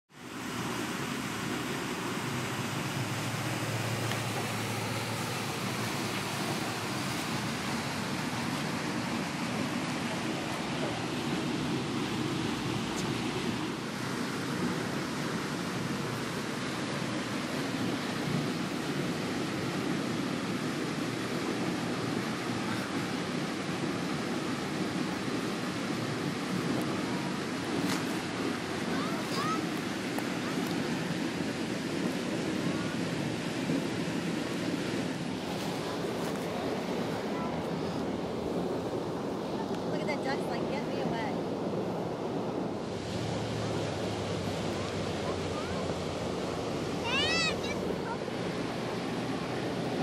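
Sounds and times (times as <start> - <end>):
steady rushing outdoor noise: 0.1 - 50.0
wind buffeting microphone: 1.3 - 50.0.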